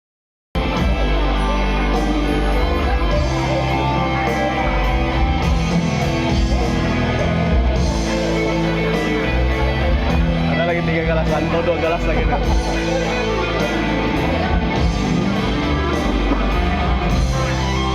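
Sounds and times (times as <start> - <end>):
band music with guitar: 0.6 - 17.9
held bass notes: 0.6 - 17.9.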